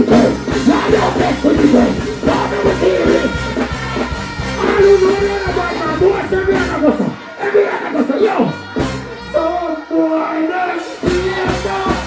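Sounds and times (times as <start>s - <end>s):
deejay voice through microphone: 0.0s - 3.8s, 4.4s - 12.0s
pounding beat with heavy bass: 0.0s - 9.4s, 10.8s - 12.0s.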